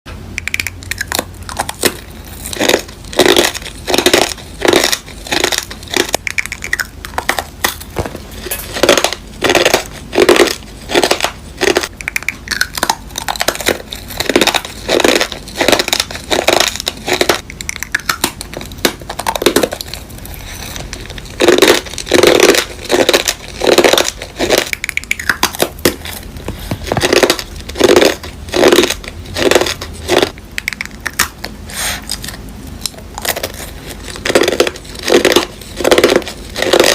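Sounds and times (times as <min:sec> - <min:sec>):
candy crunching while chewed: 0:00.3 - 0:36.9.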